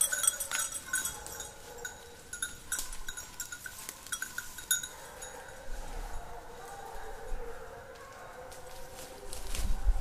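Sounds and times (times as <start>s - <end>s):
hounds baying: 0.0s - 10.0s.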